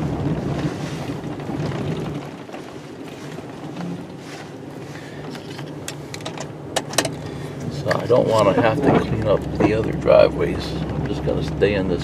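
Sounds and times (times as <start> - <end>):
truck engine hum: 0.0 - 12.0.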